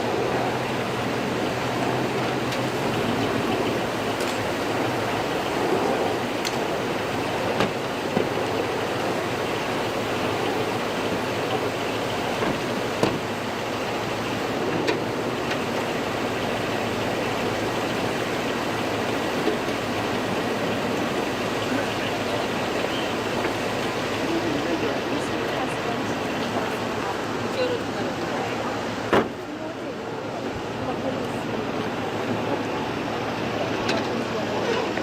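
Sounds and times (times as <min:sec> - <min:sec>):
rushing background noise: 0:00.0 - 0:35.0.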